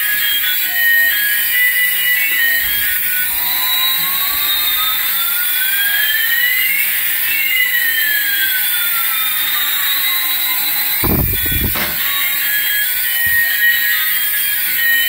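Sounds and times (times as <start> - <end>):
jet engine hiss with whistling tones: 0.0 - 15.0.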